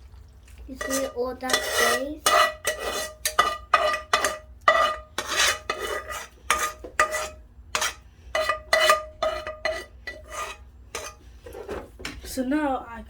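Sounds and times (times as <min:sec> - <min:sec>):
metal spoon scraping a pot: 0:00.7 - 0:11.8.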